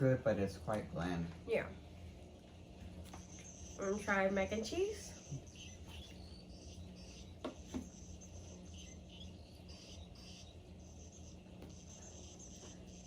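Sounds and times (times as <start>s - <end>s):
low hum: 0.0s - 13.0s
faint high chirping: 2.0s - 13.0s.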